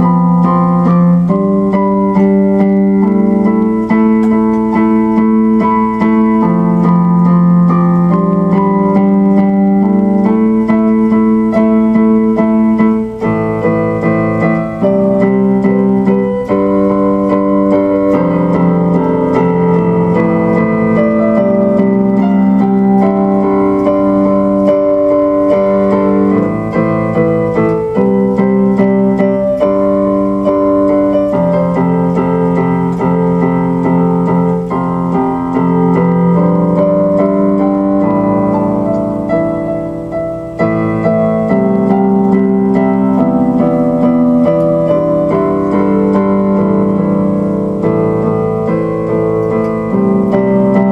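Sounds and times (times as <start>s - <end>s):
electric keyboard chords: 0.0s - 50.9s.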